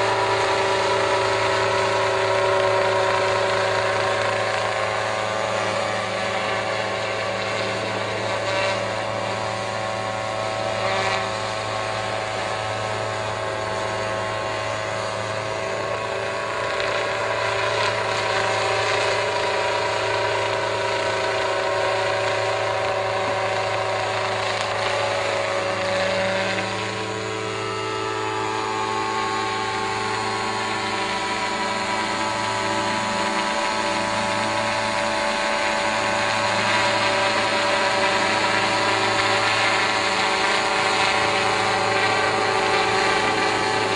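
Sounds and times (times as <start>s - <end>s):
helicopter engine and rotor drone: 0.0s - 43.9s.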